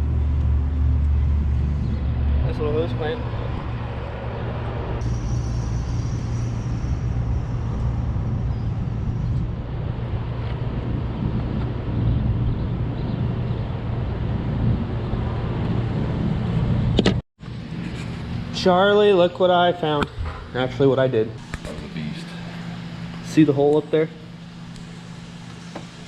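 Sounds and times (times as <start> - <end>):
steady low rumble with hiss: 0.0 - 26.0.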